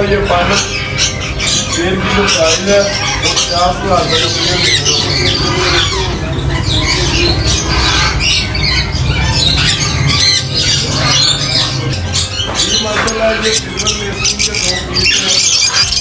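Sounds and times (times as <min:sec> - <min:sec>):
parrots squawking: 0:00.0 - 0:16.0.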